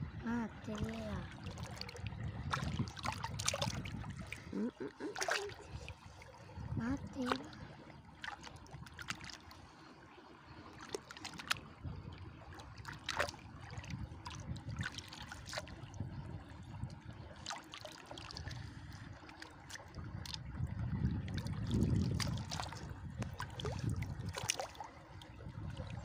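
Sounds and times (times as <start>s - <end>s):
hands sloshing in water: 0.6s - 9.9s, 10.5s - 16.2s, 16.9s - 20.6s, 21.2s - 26.0s.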